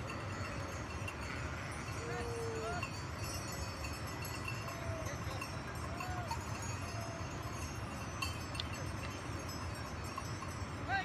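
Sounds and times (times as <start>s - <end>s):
faint bells clinking: 0.0s - 11.0s.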